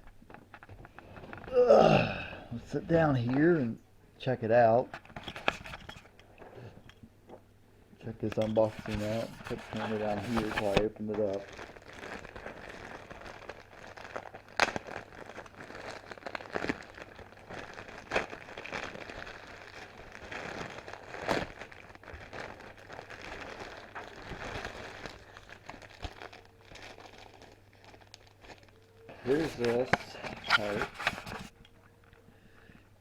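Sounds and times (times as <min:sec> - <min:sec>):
packaging crinkling and rustling: 0:00.0 - 0:01.5, 0:04.9 - 0:06.9, 0:08.2 - 0:31.9.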